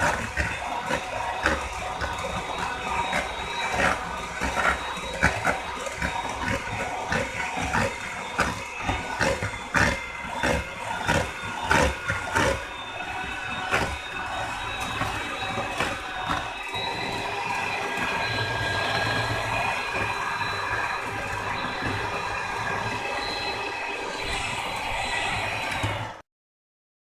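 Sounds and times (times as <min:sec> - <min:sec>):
mixer whining: 0:00.0 - 0:26.2.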